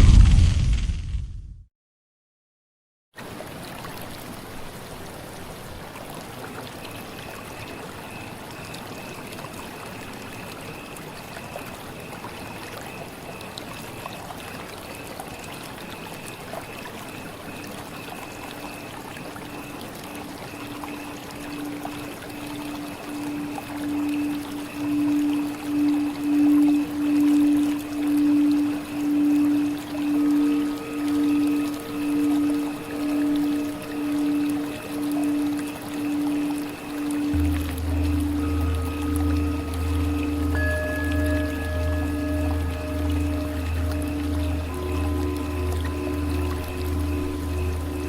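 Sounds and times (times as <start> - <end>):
trickling water: 3.2 - 48.0
faint pulsing musical tones: 6.0 - 48.0.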